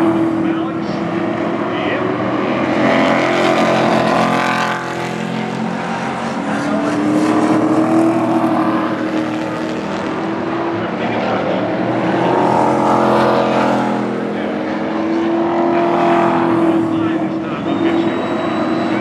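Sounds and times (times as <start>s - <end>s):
race truck engines revving: 0.0s - 19.0s.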